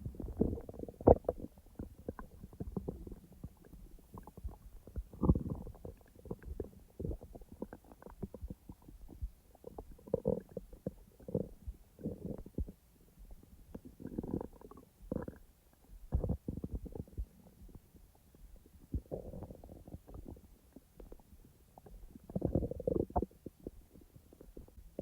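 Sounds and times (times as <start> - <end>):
stomach gurgling and rumbling: 0.0 - 25.0.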